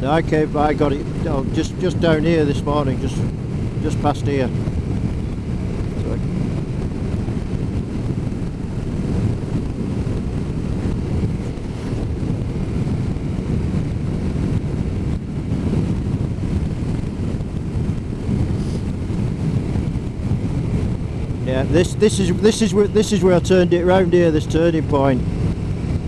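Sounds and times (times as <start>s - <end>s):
road rumble: 0.0s - 26.0s
wind rush on microphone: 0.0s - 26.0s.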